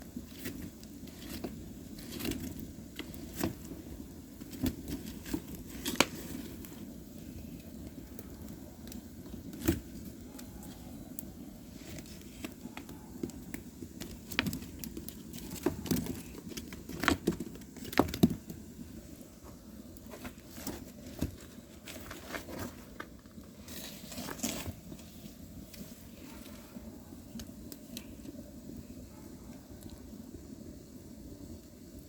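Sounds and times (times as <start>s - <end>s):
firewood crackling and popping: 0.0s - 32.0s.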